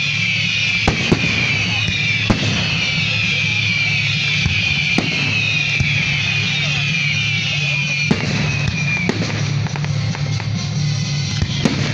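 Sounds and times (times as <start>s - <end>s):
fireworks bangs: 0.0s - 11.9s
steady background din: 0.0s - 11.9s.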